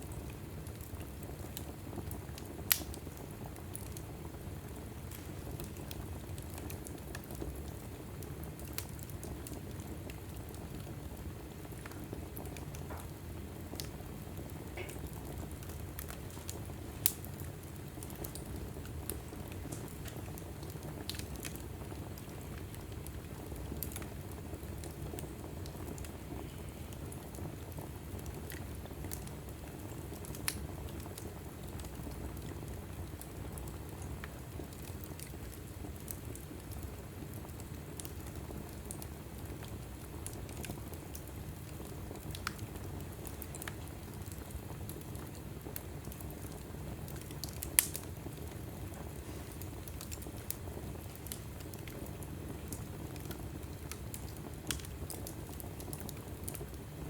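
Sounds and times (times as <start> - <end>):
fire popping: 0.0 - 57.0
wood fire rumbling and crackling: 0.0 - 57.0.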